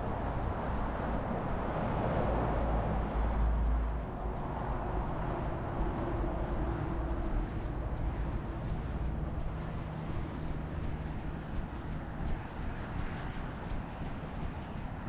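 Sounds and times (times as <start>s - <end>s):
faint running stride ticks: 0.0s - 15.0s
steady outdoor noise: 0.0s - 15.0s
wind rumbling on microphone: 0.0s - 15.0s.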